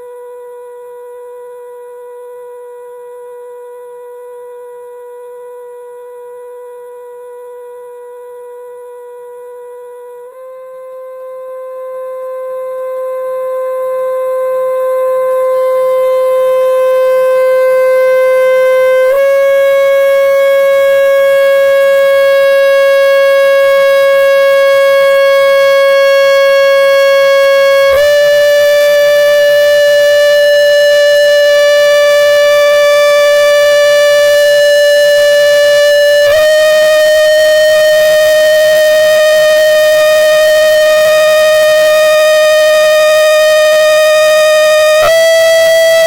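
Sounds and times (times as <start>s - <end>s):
loud buzzy tone: 0.0s - 46.0s.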